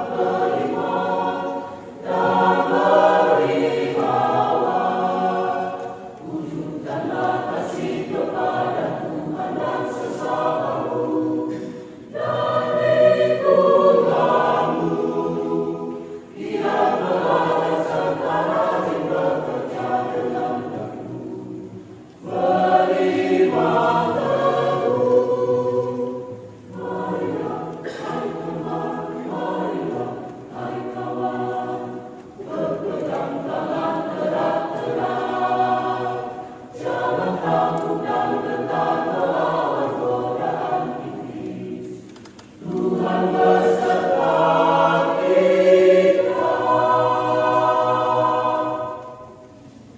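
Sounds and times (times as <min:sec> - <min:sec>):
mixed choir singing: 0:00.0 - 0:49.9.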